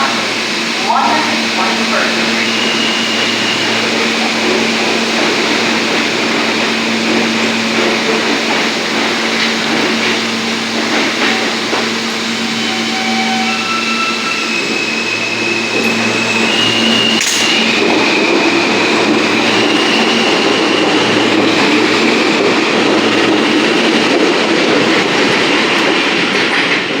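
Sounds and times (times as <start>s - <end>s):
subway train wheels rumbling on rail: 0.0s - 27.0s.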